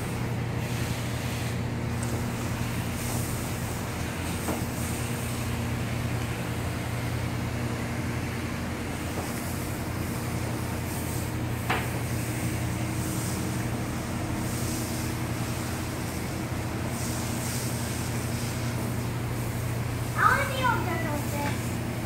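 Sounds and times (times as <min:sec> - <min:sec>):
high-pressure pump humming: 0:00.0 - 0:22.0
pressure washer spraying water: 0:00.0 - 0:22.0.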